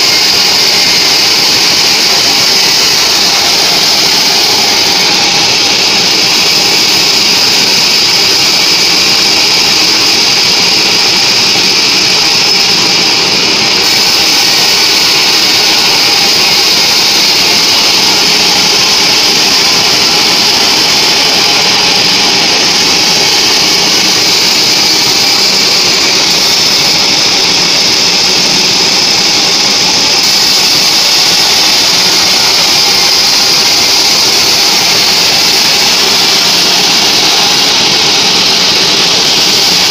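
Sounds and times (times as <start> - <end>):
band saw cutting through wood: 0.0 - 39.9
machine hum: 0.0 - 39.9.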